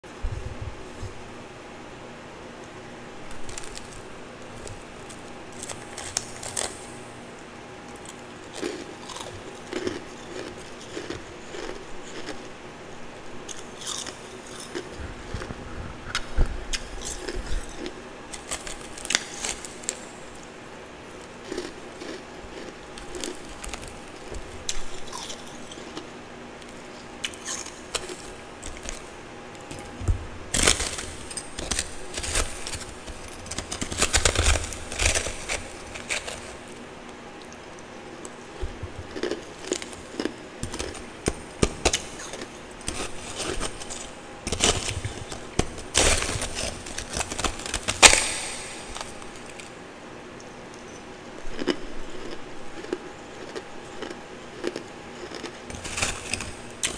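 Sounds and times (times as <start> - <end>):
ice crunching when chewed: 3.3 - 7.0, 7.9 - 12.6, 13.5 - 20.1, 21.2 - 29.1, 30.5 - 36.8, 37.4 - 49.7, 51.4 - 56.9.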